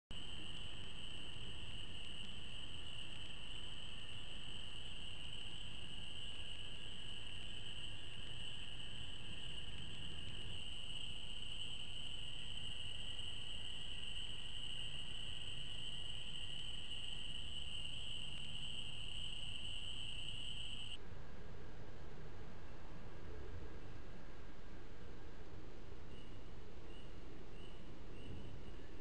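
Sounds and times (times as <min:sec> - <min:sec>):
faint low hiss: 0:00.1 - 0:29.0.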